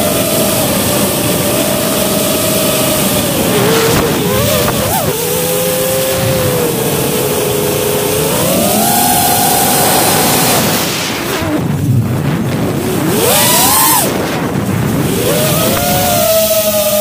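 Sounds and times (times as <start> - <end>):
quadcopter motors whining: 0.0 - 17.0
wind rushing: 0.8 - 16.8.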